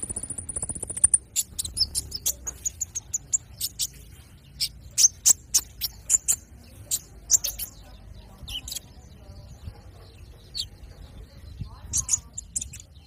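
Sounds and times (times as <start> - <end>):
bird chipping and twittering: 0.0 - 13.0.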